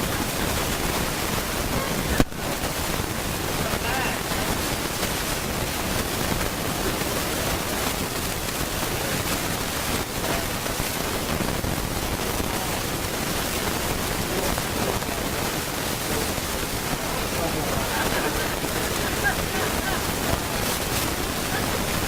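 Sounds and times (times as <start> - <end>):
recording noise hiss: 0.0 - 22.0.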